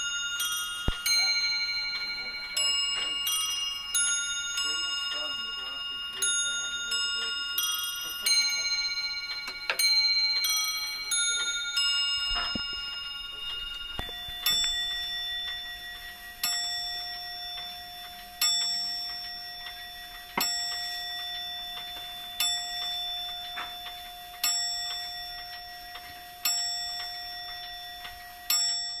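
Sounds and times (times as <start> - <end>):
clock striking: 0.0 - 29.0.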